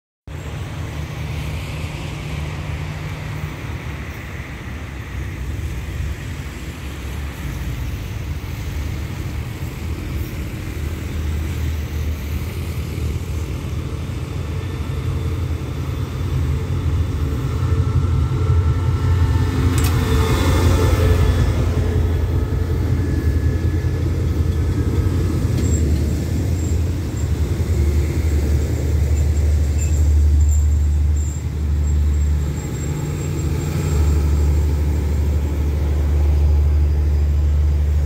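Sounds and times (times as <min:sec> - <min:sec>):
locomotive engine rumble: 0:00.3 - 0:38.0.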